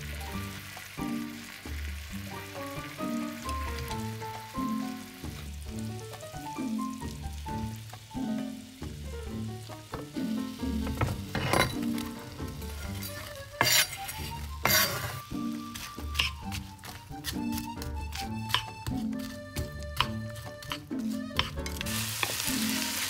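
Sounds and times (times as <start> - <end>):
background music with steady beat: 0.0 - 23.0
onion sizzling in hot oil: 0.0 - 23.0.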